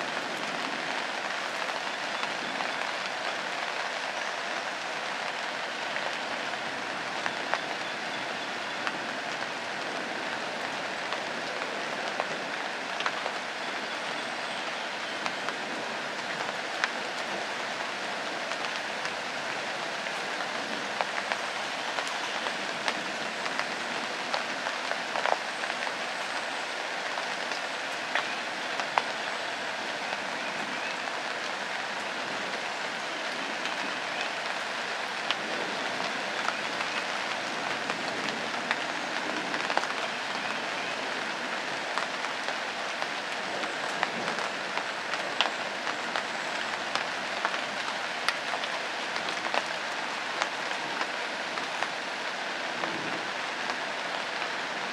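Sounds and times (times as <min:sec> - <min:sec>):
rain on leaves and ground: 0:00.0 - 0:54.9.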